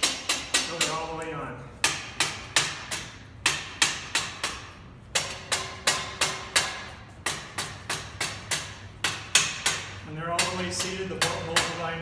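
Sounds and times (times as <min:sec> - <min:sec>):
rubber mallet striking steel tube: 0:00.0 - 0:01.2, 0:01.8 - 0:12.0.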